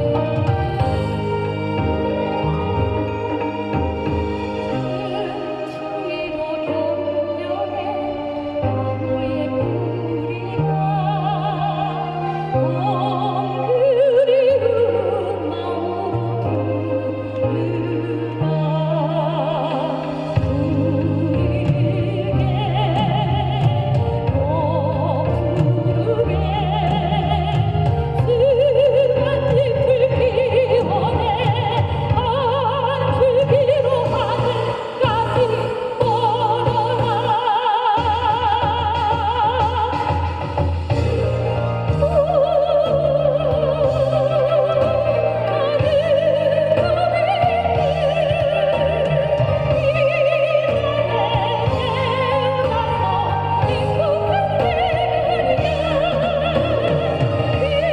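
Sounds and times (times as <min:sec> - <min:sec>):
accompaniment track with bass: 0:00.0 - 0:57.9
person singing with vibrato: 0:00.0 - 0:57.9.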